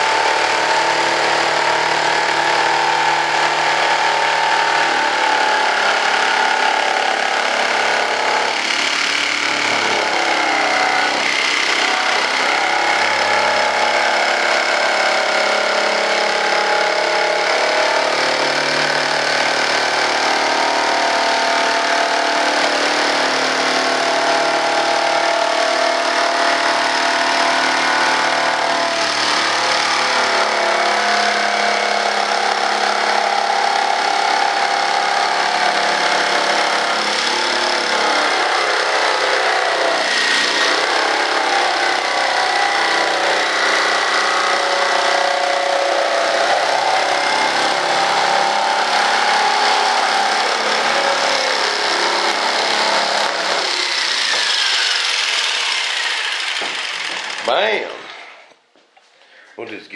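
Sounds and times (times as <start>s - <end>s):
electric jigsaw sawing: 0.0s - 58.6s.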